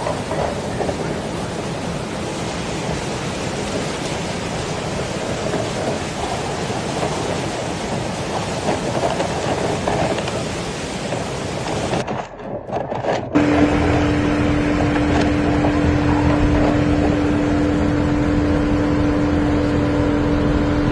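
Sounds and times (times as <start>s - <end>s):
heavy rain falling: 0.0s - 12.1s, 13.4s - 20.9s.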